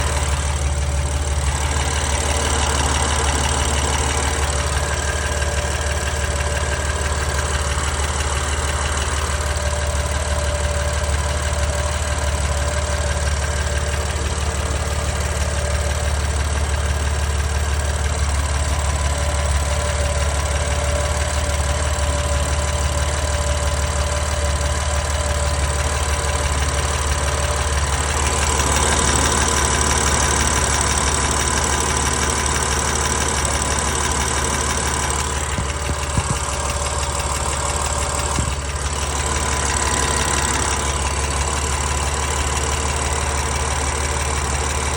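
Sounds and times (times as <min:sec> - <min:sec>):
car engine idling: 0:00.0 - 0:44.9
engine ticking: 0:00.0 - 0:44.9.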